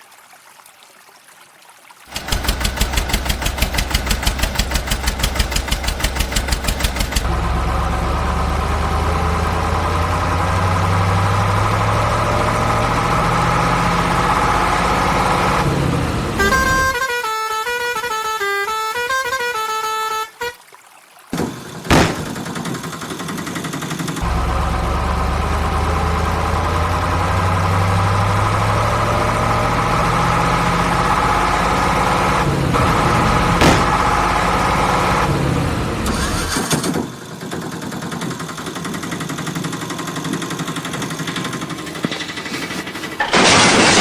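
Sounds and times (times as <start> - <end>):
vehicle engine running loudly: 2.1 - 17.0, 21.4 - 44.0.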